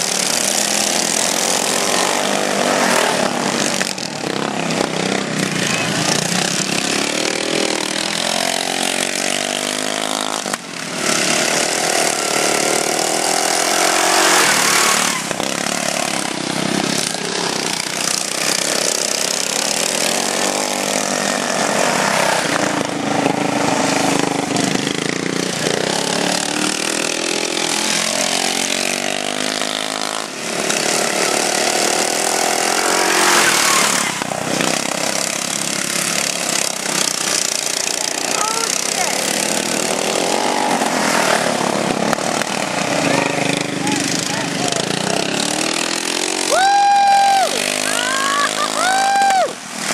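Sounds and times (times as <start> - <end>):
small lawnmower engines racing: 0.0 - 49.9.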